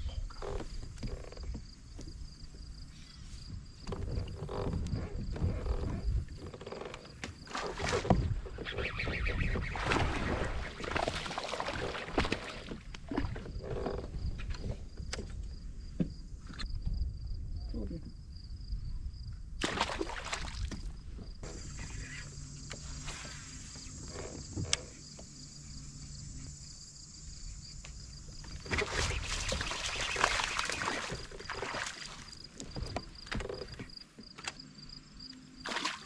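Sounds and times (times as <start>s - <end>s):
water sloshing against kayak: 0.0s - 16.4s, 19.6s - 34.1s.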